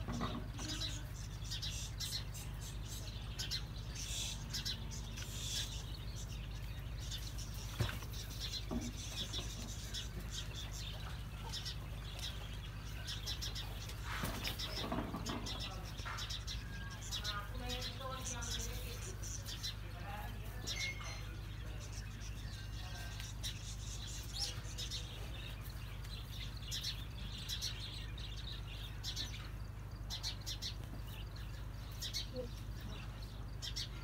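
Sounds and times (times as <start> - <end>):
small birds chirping: 0.0 - 34.0
steady low hum: 0.0 - 34.0.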